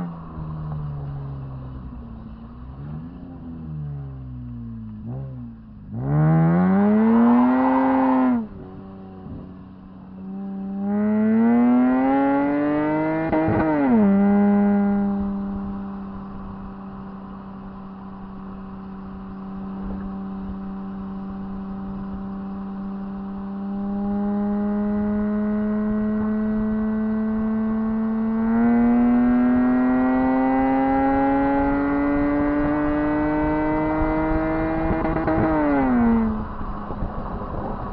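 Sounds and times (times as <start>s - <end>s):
car engine revving and cruising: 0.0s - 37.9s.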